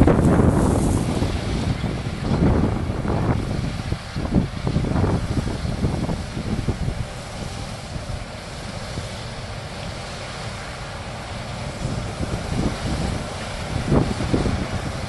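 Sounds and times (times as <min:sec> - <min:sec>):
wind buffeting microphone: 0:00.0 - 0:10.1, 0:11.0 - 0:15.0
combine harvester and tractor hum: 0:00.0 - 0:15.0.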